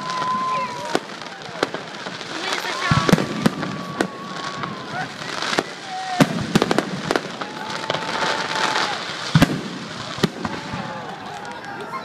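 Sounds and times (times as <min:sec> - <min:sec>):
fireworks bangs: 0:00.0 - 0:12.0
fireworks crackling: 0:00.0 - 0:12.0
fireworks whistling: 0:00.0 - 0:12.0.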